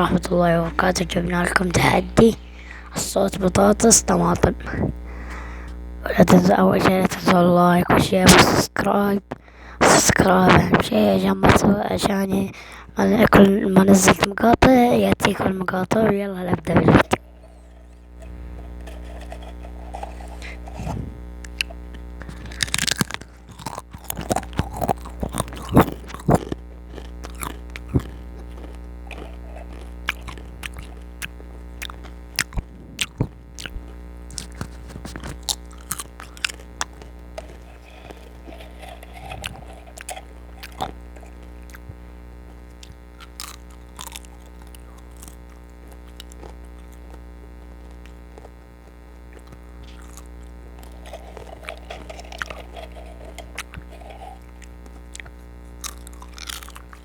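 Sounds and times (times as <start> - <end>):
potato chips crunching and chewing: 0.0 - 57.0
steady electrical hum: 0.0 - 57.0.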